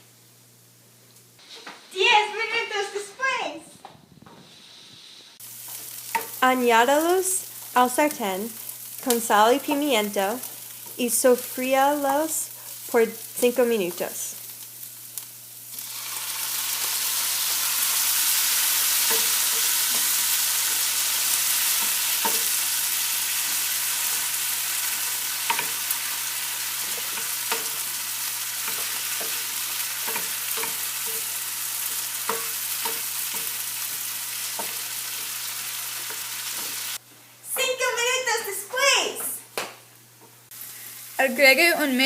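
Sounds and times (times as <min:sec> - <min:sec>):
vegetables sizzling in a frying pan: 0:04.5 - 0:39.2, 0:40.5 - 0:42.0.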